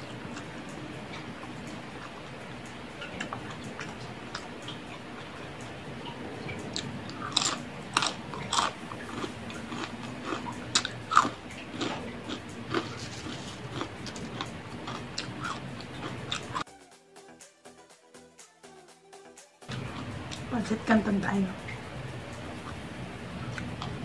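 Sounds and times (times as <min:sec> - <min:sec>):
chewing crispy fried food: 0:00.0 - 0:05.7, 0:06.4 - 0:16.7, 0:19.7 - 0:20.5, 0:21.6 - 0:24.0.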